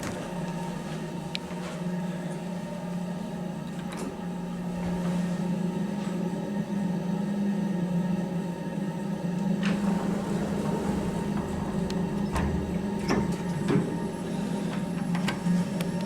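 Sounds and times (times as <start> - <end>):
lift car humming: 0.0 - 16.0.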